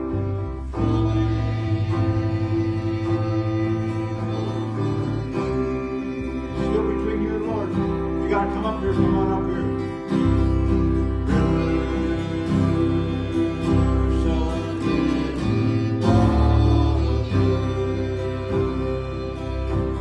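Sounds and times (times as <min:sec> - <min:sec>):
acoustic guitar chords: 0:00.0 - 0:20.0
person singing: 0:00.0 - 0:20.0
steady bass line: 0:00.0 - 0:20.0.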